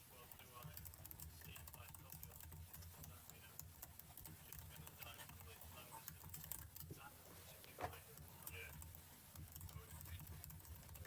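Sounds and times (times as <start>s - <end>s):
faint keyboard typing: 0.0s - 11.0s.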